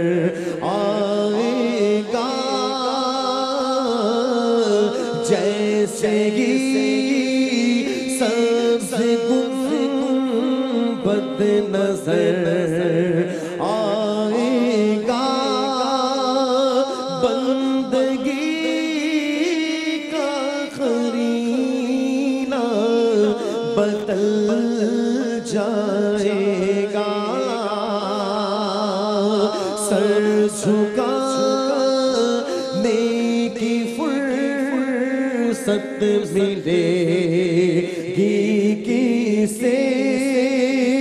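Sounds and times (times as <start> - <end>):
man singing a devotional chant: 0.0 - 41.0.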